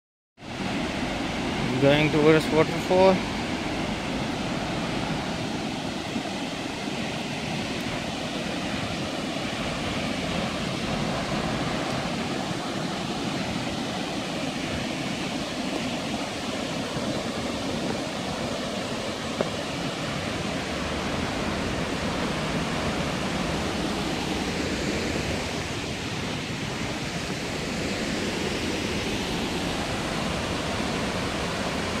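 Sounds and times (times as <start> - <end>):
waterfall roaring: 0.5 - 32.0.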